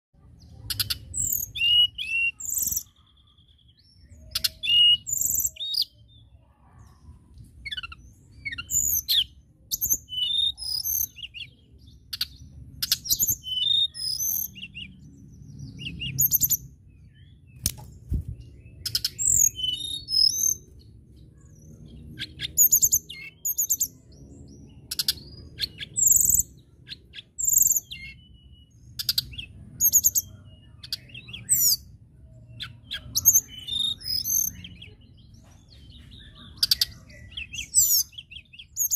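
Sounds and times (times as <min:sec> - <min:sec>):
bird singing whistled trills: 0:00.5 - 0:06.2, 0:07.6 - 0:35.0, 0:36.0 - 0:38.9.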